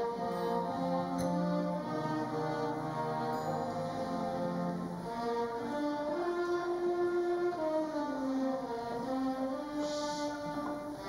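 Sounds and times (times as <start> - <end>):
orchestra of strings and trombones: 0.0 - 11.0.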